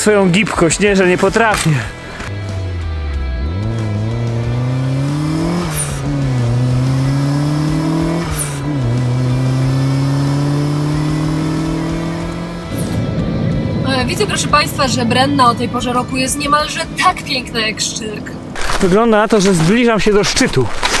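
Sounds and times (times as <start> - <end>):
car engine accelerating: 0.6 - 20.1.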